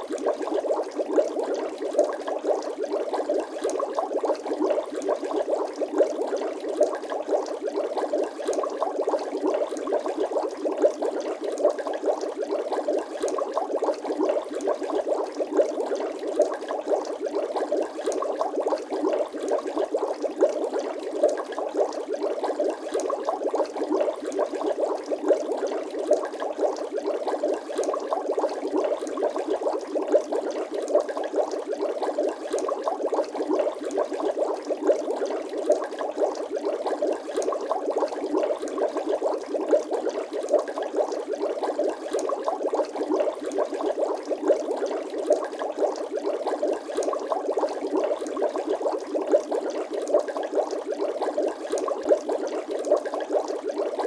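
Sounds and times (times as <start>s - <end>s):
water bubbling: 0.0s - 54.0s.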